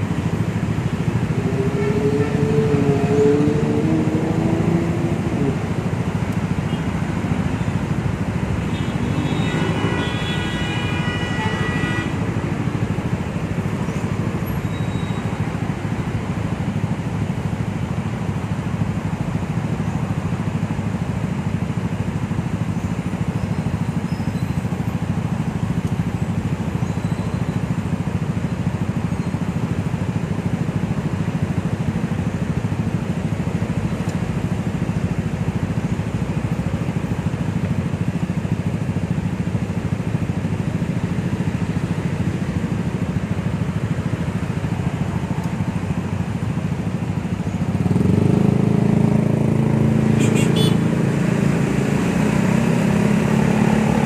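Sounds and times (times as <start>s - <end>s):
motorcycle engines idling: 0.0s - 54.0s.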